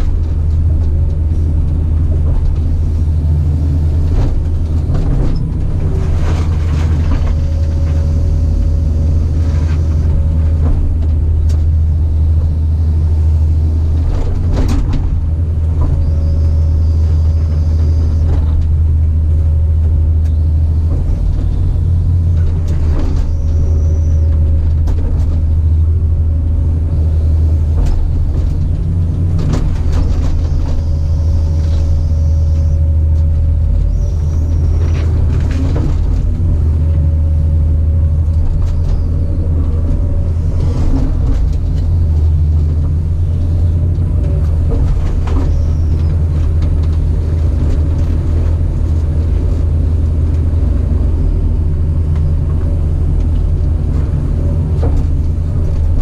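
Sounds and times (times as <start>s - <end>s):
diesel engine under load: 0.0s - 56.0s
high whine: 0.0s - 56.0s.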